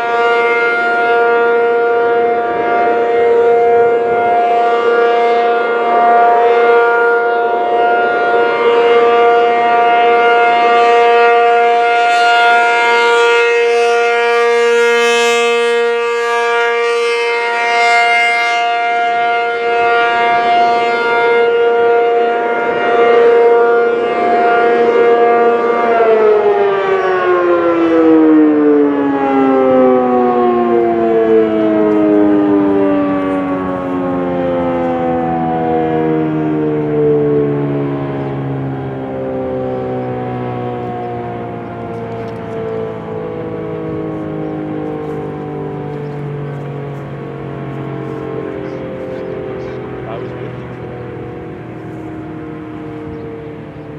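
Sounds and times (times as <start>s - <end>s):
warning siren steady tone: 0.0s - 53.9s.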